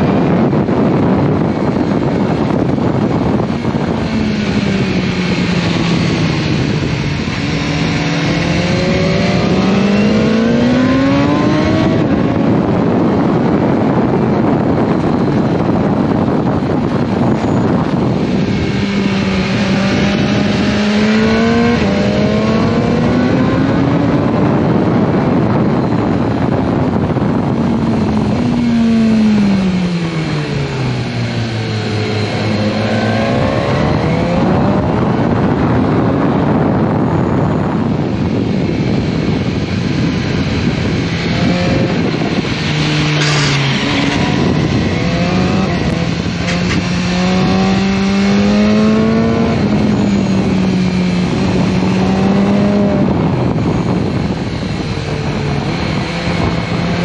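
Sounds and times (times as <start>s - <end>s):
motorcycle engine at speed: 0.0s - 57.0s
wind rush: 0.0s - 57.0s.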